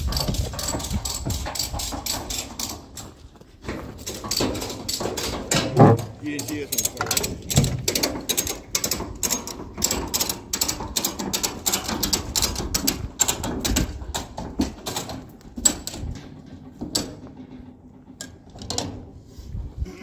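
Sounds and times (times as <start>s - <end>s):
rapid mechanical clicking: 0.0s - 3.0s, 4.0s - 18.9s.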